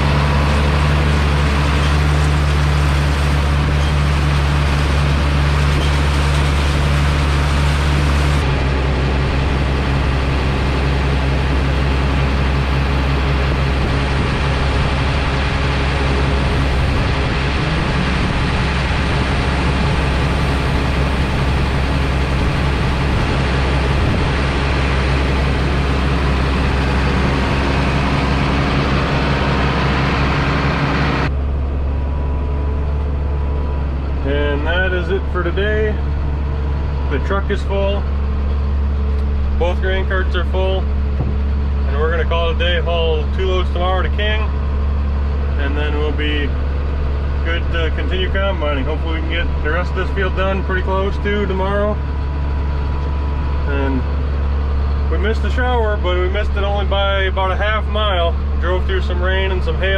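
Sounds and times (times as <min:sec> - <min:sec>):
diesel engine running loudly: 0:00.0 - 0:59.9.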